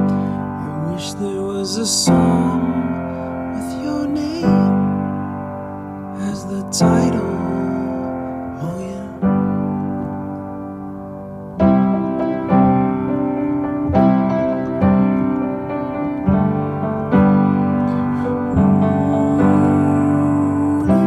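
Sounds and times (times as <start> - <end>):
piano playing chords: 0.0 - 21.0.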